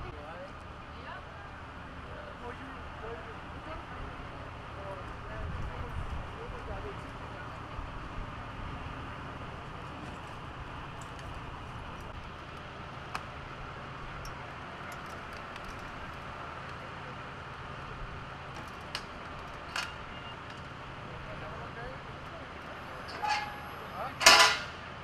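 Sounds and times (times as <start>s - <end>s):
idling vehicles humming: 0.0s - 25.0s.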